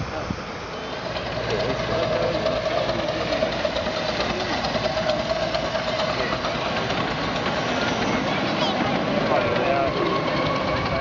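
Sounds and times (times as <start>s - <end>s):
steam locomotive passing: 0.0s - 11.0s.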